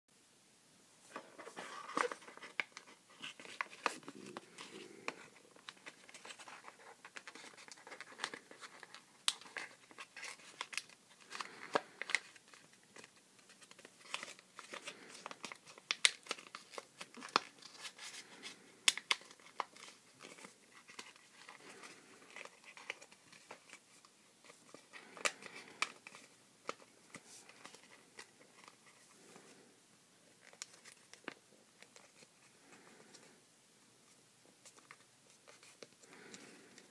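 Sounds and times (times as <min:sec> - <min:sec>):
paper crinkling: 0:01.1 - 0:29.6, 0:30.3 - 0:33.3.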